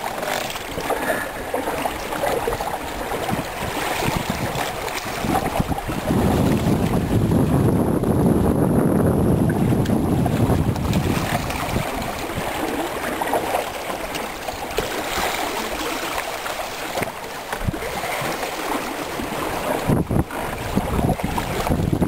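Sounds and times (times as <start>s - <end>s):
water splashing along boat hulls: 0.0s - 22.0s.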